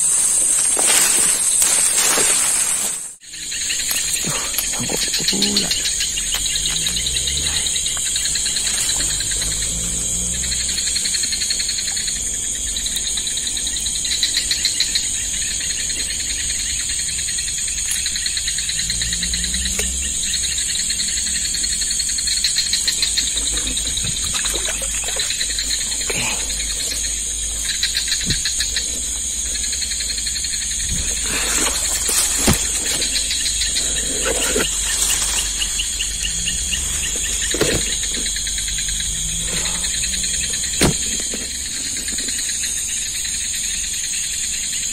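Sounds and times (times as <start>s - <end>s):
high-pitched insect trill: 0.0s - 44.9s
lower insect chirr: 0.0s - 44.9s.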